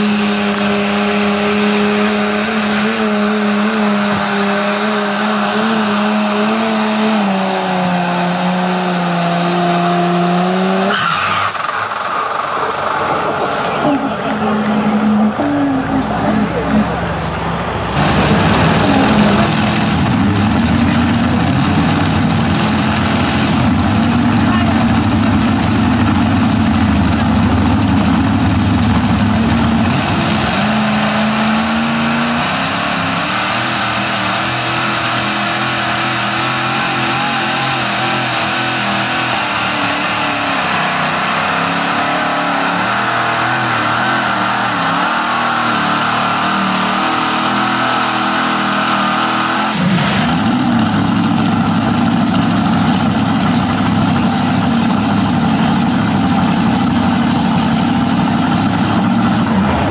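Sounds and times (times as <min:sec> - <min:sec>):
tractor engine under full load: 0:00.0 - 0:59.9.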